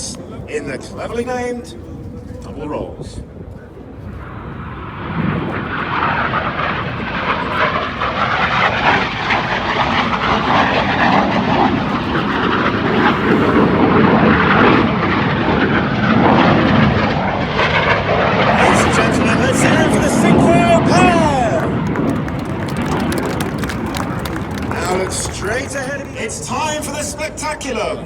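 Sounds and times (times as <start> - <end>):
jet roar: 0.0 - 28.0.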